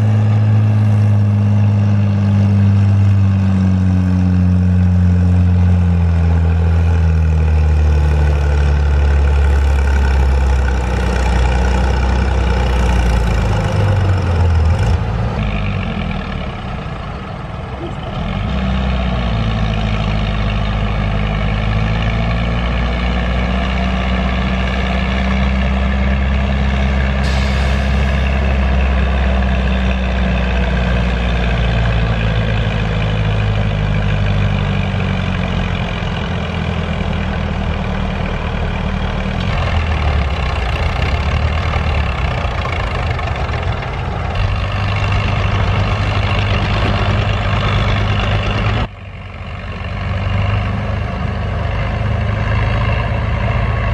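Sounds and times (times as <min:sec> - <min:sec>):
tractor engine running loud: 0:00.0 - 0:53.9.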